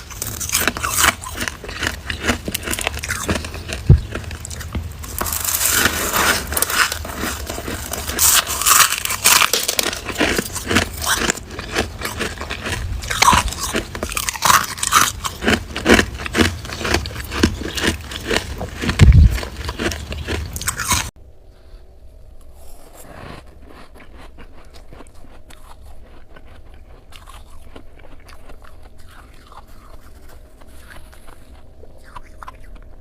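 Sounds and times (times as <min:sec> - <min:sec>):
chewing crunchy frost: 0:00.0 - 0:21.2, 0:22.4 - 0:33.0.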